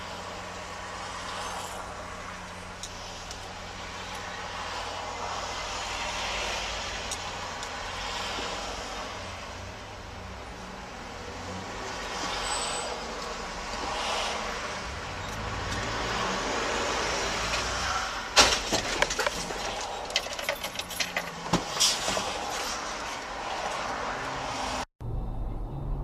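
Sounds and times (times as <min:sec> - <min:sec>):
road vehicle noise: 0:00.0 - 0:26.0.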